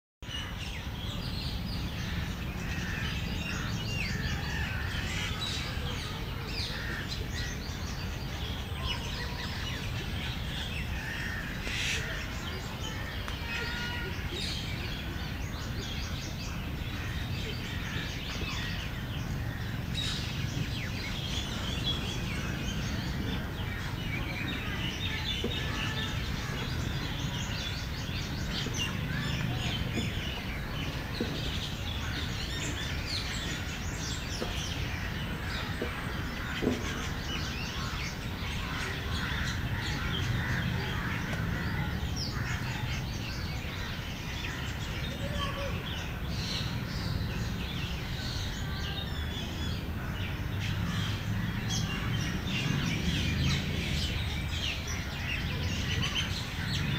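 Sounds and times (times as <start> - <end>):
birds chirping and singing: 0.2 - 56.9.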